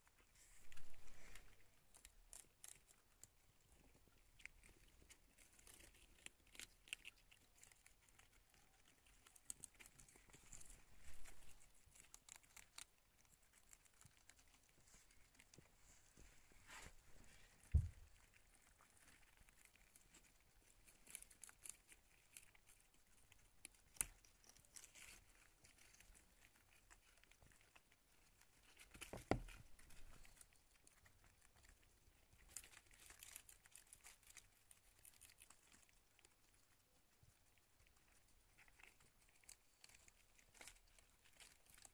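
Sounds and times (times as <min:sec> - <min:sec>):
rustling of cage bedding: 0:00.0 - 0:41.9.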